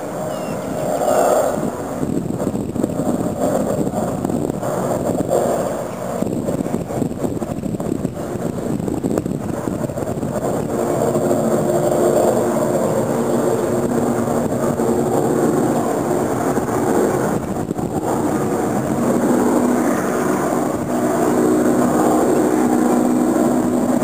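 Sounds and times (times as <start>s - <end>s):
engine-like drone: 0.0s - 24.0s
wind noise: 0.0s - 24.0s.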